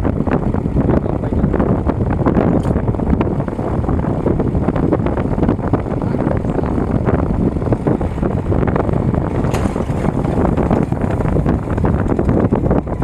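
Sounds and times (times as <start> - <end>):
tractor engine running: 0.0 - 13.0
wind noise on microphone: 0.0 - 13.0.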